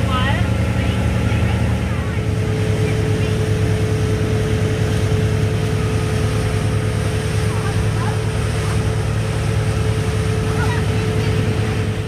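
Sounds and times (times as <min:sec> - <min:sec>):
churning wake water: 0:00.0 - 0:12.0
motorboat engine droning: 0:00.0 - 0:12.0.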